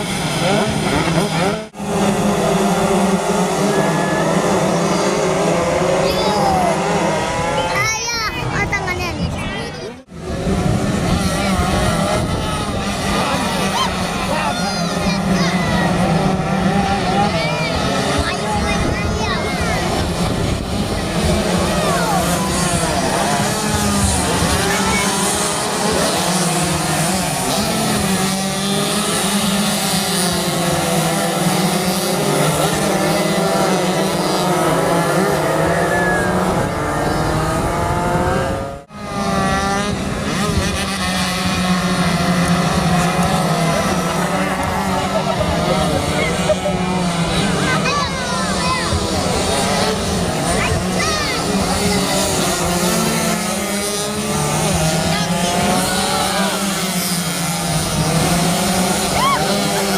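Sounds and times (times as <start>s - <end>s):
racing motorcycles revving: 0.0s - 59.9s.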